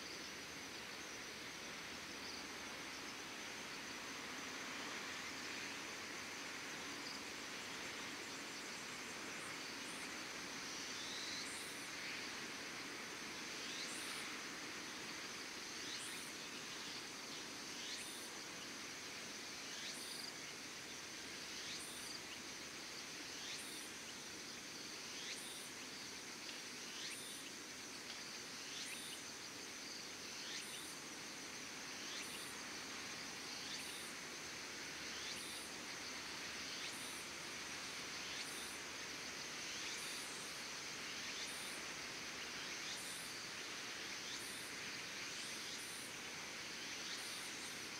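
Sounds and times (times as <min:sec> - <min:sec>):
insects trilling: 0:00.0 - 0:47.9
outdoor background hiss: 0:00.0 - 0:47.9.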